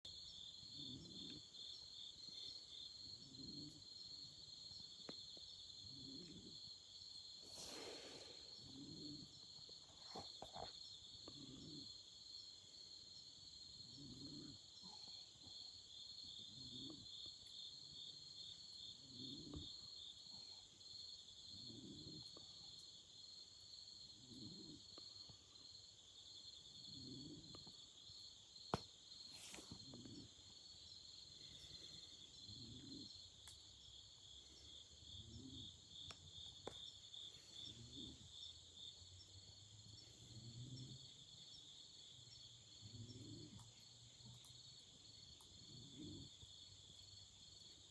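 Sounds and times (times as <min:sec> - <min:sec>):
insects chirping in trills: 0:00.1 - 0:47.9.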